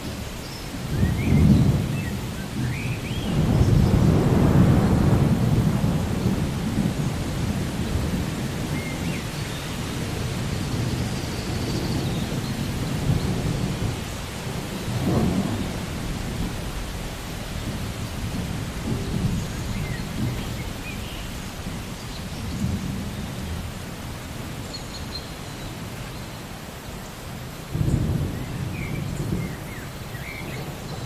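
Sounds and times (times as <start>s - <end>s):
steady rain: 0.0s - 31.0s
rolling thunder: 0.8s - 24.7s, 27.6s - 31.0s.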